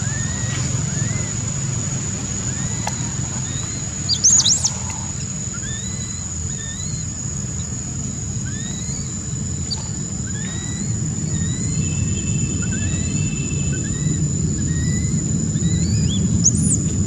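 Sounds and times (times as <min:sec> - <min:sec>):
high insect drone: 0:00.0 - 0:17.0
low steady rumble: 0:00.0 - 0:17.0.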